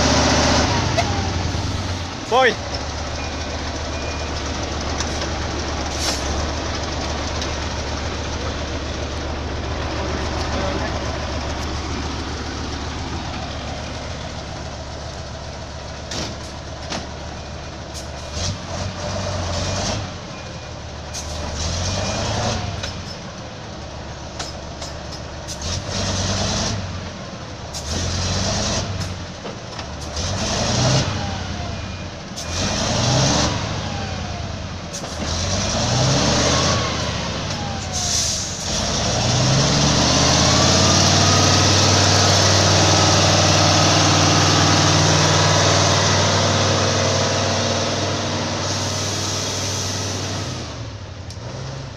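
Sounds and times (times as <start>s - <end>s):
truck engine revving: 0.0s - 20.4s, 21.1s - 23.1s, 25.4s - 27.1s, 27.7s - 29.3s, 29.9s - 51.9s.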